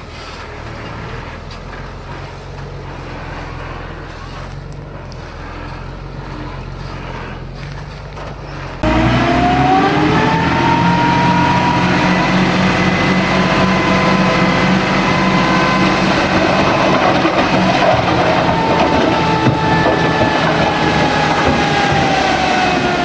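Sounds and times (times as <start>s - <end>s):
diesel engine running: 0.0s - 23.0s
engine whine over clatter: 0.0s - 23.0s.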